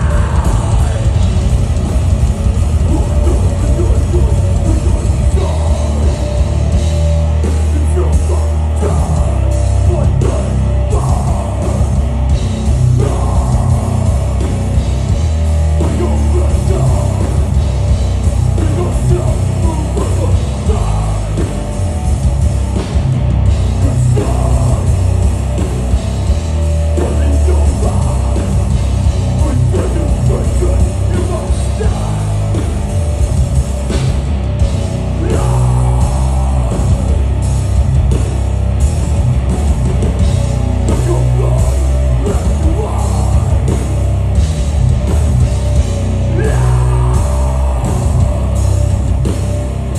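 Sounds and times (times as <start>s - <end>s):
vocals: 0.0s - 34.0s, 34.9s - 38.2s, 40.6s - 45.1s, 46.0s - 49.9s
distorted guitars and bass: 0.0s - 49.9s
drum kit: 0.0s - 49.9s.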